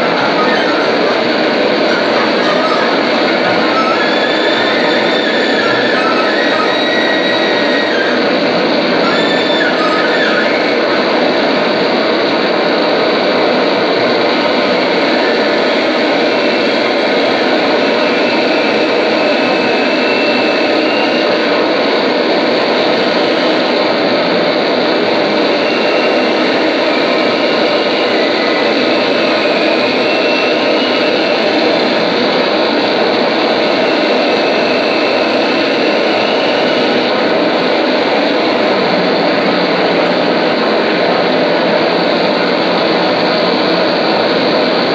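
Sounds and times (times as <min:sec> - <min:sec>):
distorted electric guitar noise: 0:00.0 - 0:44.9.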